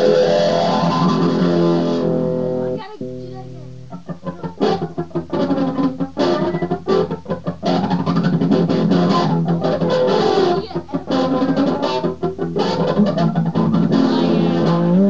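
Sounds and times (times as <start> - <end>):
electric guitar through effects pedal: 0.0 - 15.0.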